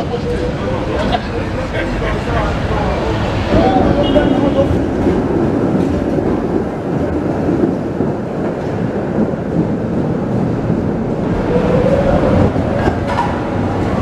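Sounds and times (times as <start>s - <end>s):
tram wheels on rail: 0.0s - 14.0s
tram whine: 0.0s - 14.0s.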